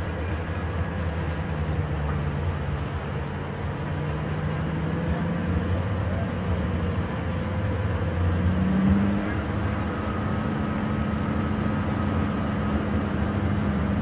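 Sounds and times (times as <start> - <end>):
car engine drone: 0.0 - 14.0
road noise: 0.0 - 14.0.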